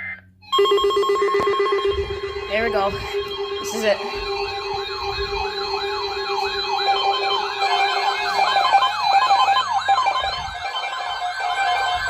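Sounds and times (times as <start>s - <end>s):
electronic sirens yelping: 0.0s - 12.0s
steady alarm tones: 0.4s - 12.0s.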